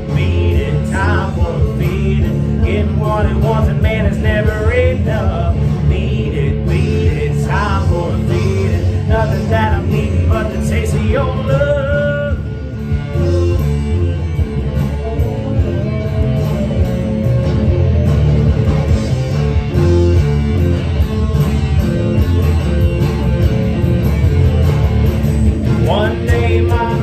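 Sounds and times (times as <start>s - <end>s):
electric guitar rock chords: 0.0s - 27.0s.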